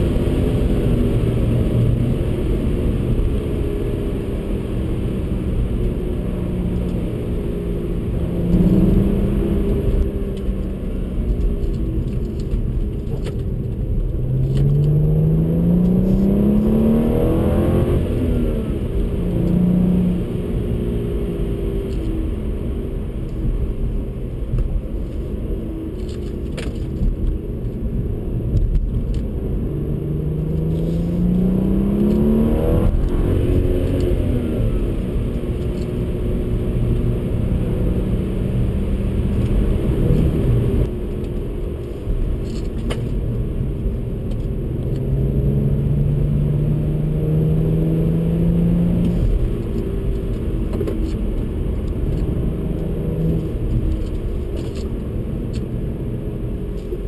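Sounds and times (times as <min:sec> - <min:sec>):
car engine accelerating: 0:00.0 - 0:57.0
road and tyre rumble: 0:00.0 - 0:57.0.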